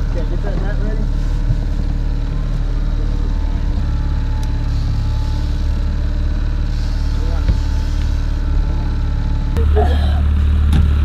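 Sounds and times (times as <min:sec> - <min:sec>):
outboard motor droning: 0:00.0 - 0:11.0.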